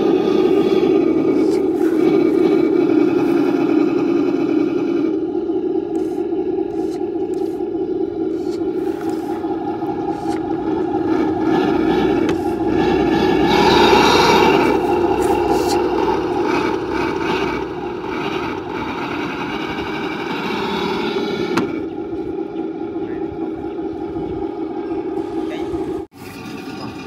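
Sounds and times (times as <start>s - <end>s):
toy truck droning hum: 0.0s - 27.0s.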